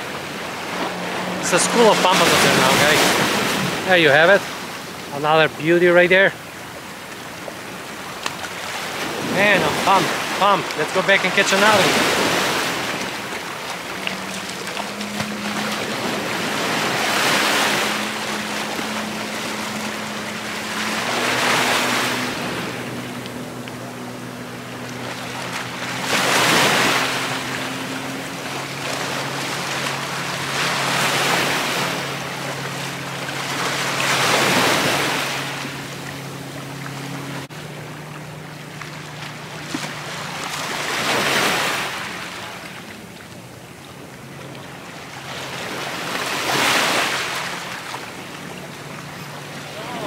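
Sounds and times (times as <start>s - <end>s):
waves breaking over rocks: 0.0s - 37.0s, 38.0s - 43.4s, 44.1s - 50.0s.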